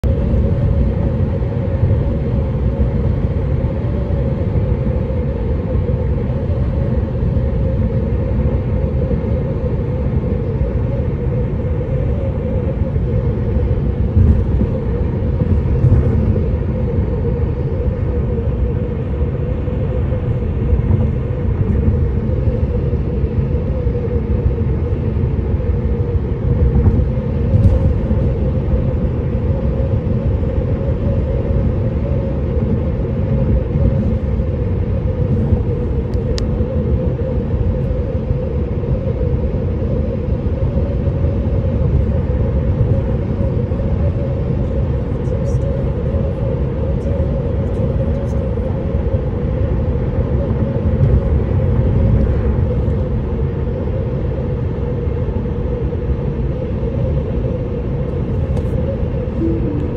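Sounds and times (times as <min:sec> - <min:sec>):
road rumble and tyre noise: 0:00.0 - 0:57.1.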